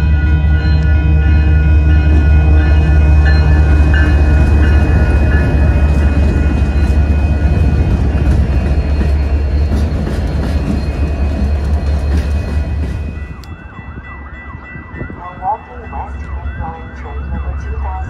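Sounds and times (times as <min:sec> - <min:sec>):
locomotive low rumble: 0:00.0 - 0:18.0.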